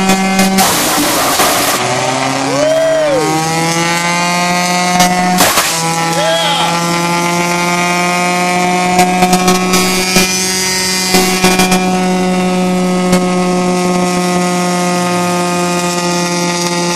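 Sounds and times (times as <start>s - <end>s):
sharp cracks and rattles: 0.0s - 2.4s, 3.4s - 12.3s, 13.0s - 16.9s
wood chipper running: 0.0s - 16.9s.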